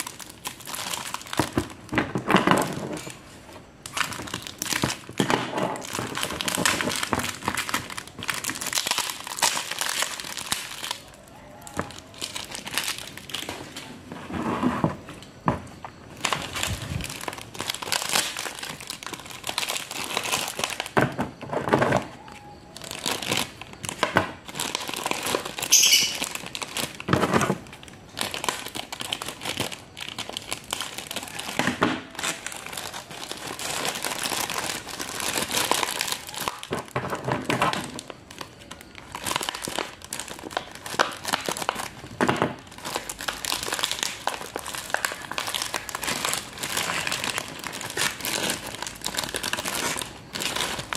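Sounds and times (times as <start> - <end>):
plastic bags crinkling: 0.0 - 50.9.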